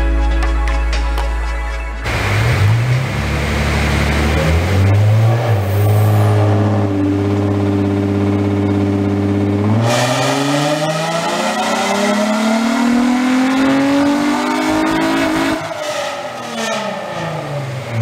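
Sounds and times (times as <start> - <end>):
car engine revving and idling: 2.0 - 18.0.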